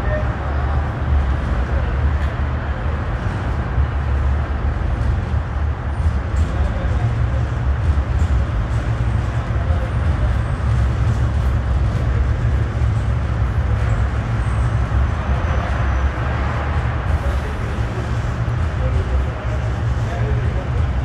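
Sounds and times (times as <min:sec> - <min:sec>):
electric train rumbling: 0:00.0 - 0:21.0.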